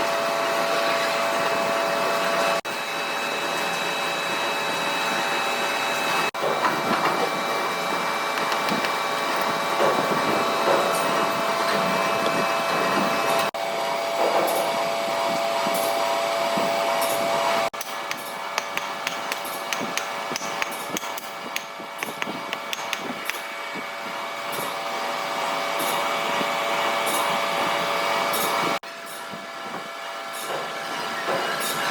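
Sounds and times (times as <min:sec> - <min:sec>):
machine humming and whining: 0:00.0 - 0:31.9.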